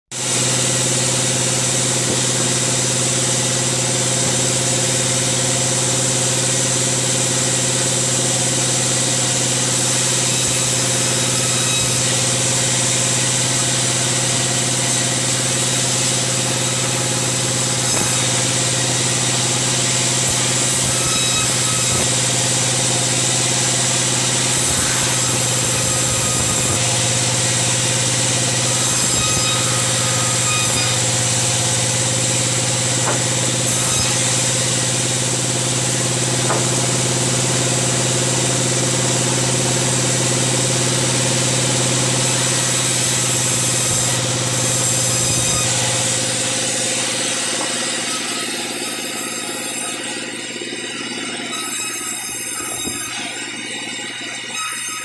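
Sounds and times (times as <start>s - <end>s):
bandsaw humming: 0.1s - 55.0s.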